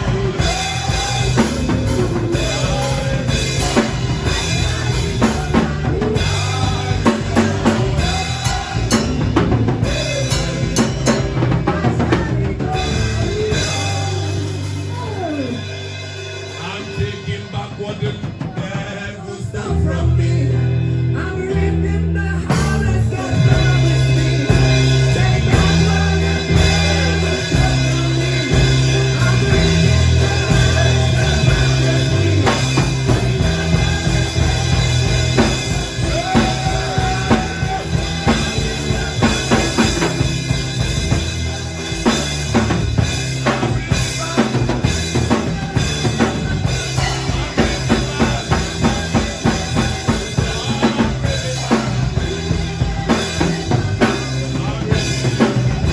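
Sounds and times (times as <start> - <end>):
drum kit steady beat: 0.0 - 19.4, 21.8 - 55.9
band music: 0.0 - 55.9.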